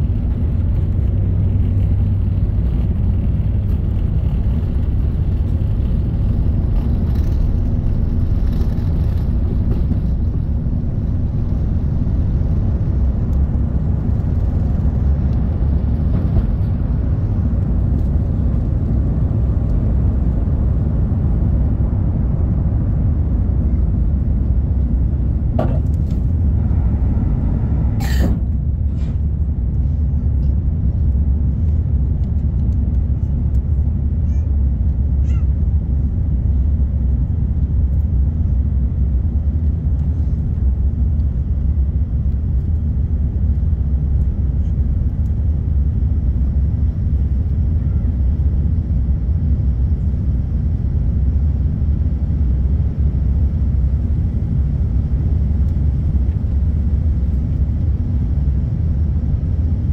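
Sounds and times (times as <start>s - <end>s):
jet engine rumble in cabin: 0.0s - 59.9s.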